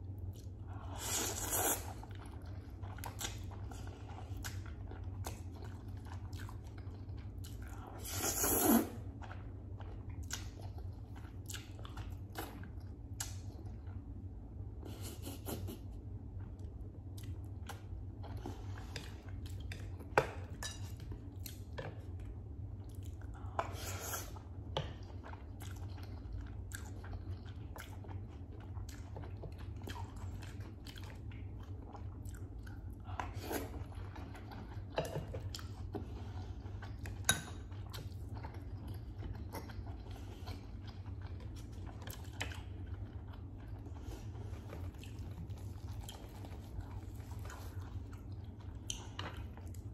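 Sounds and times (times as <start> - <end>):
person chewing noodles: 0.0 - 49.9.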